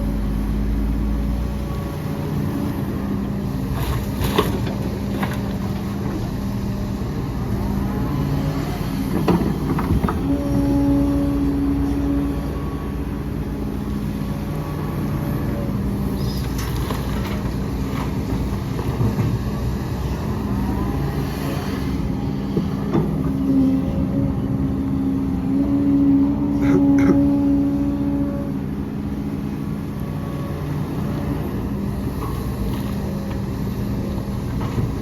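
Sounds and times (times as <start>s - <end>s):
diesel engines of earthmoving machinery: 0.0s - 35.0s.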